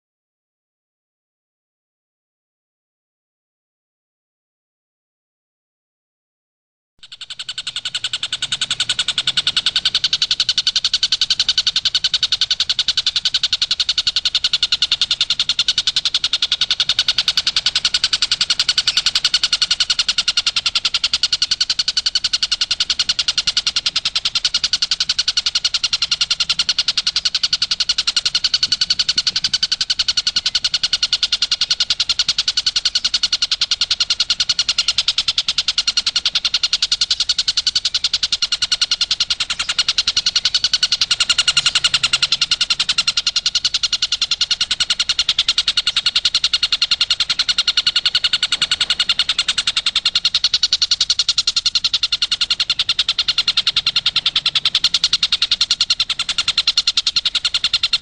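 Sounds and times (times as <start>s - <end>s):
kingfisher chattering call: 7.0s - 58.0s.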